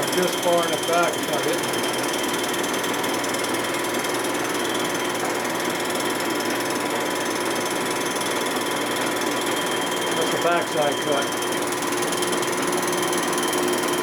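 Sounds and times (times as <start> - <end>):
machine tool cutting metal: 0.0 - 14.0.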